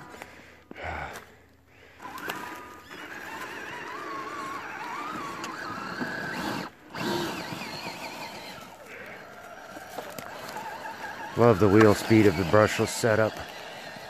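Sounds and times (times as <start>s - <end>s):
electric motor whining: 1.7s - 14.0s.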